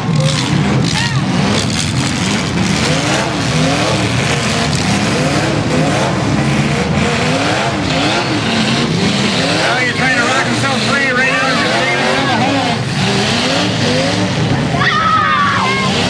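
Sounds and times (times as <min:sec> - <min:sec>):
car engine revving: 0:00.0 - 0:16.0
din of other cars running: 0:00.0 - 0:16.0.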